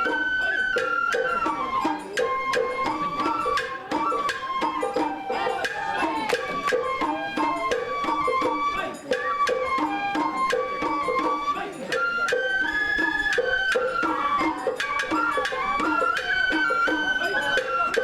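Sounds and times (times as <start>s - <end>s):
bamboo flute melody: 0.0s - 18.0s
taiko drum beats: 0.0s - 18.0s.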